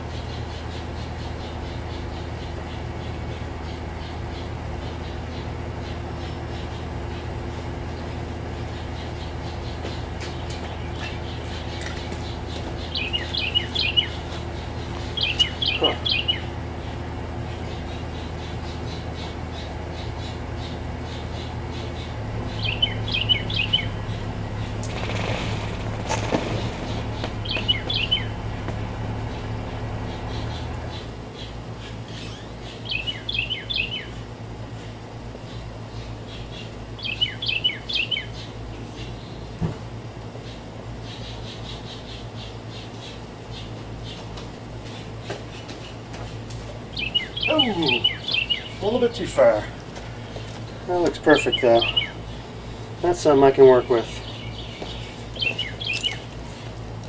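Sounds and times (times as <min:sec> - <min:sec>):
songbird chirping: 0:00.0 - 0:25.3, 0:26.2 - 0:57.0
engine idling: 0:00.0 - 0:57.0.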